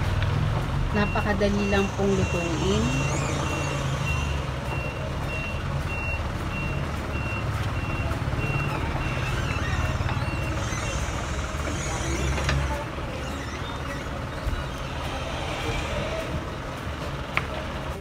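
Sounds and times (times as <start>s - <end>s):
low engine hum: 0.0s - 18.0s
reversing alarm beeps: 0.9s - 15.4s.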